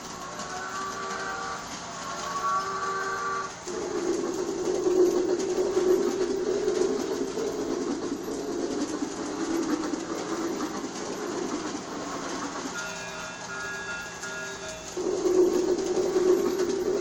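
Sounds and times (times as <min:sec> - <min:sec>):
train wheel clatter: 0:00.0 - 0:17.0.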